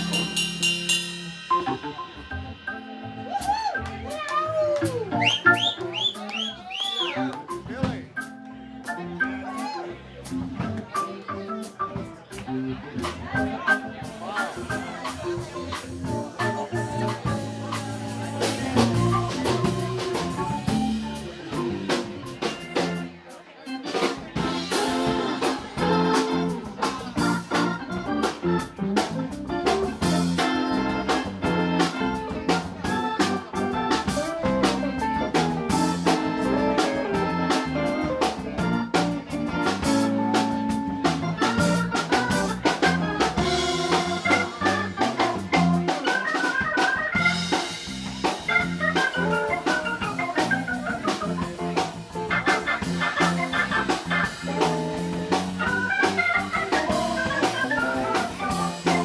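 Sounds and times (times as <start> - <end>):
drum kit: 0.0 - 59.0
electric guitar: 1.2 - 59.0
organ: 4.8 - 9.5, 10.3 - 59.0.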